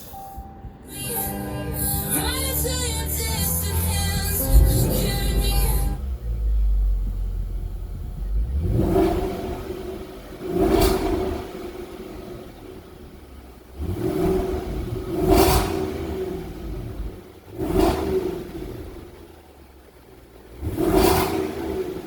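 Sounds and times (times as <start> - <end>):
car engine idle rumble: 0.0 - 22.0
car engine throttle blips: 0.0 - 22.0.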